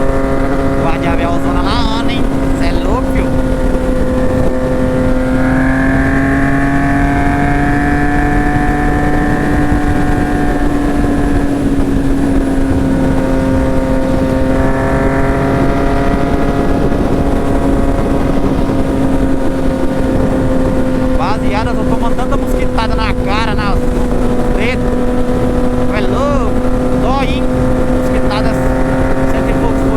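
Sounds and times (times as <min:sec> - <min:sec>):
motorcycle engine running: 0:00.0 - 0:29.9
wind noise: 0:00.0 - 0:29.9.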